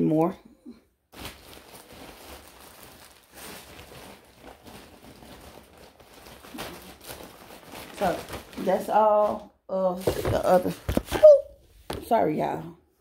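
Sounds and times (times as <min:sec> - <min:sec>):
plastic packaging rustling: 0:01.1 - 0:12.2.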